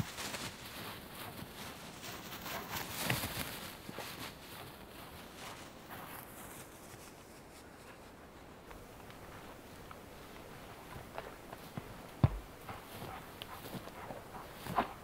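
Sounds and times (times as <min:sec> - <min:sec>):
footsteps rustling through grass: 0:00.0 - 0:15.0.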